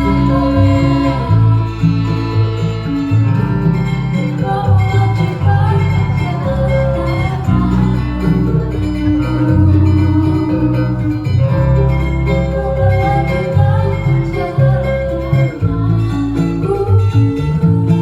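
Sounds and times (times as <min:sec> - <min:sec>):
bass line: 0:00.0 - 0:18.0
guitar-led instrumental music: 0:00.0 - 0:18.0.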